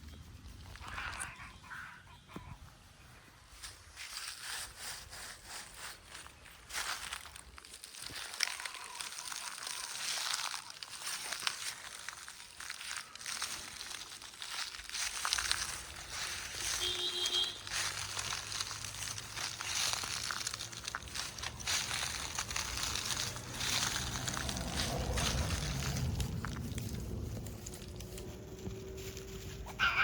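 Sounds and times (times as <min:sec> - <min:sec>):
crunching and crackling rustles: 0:00.0 - 0:01.7, 0:03.5 - 0:30.0.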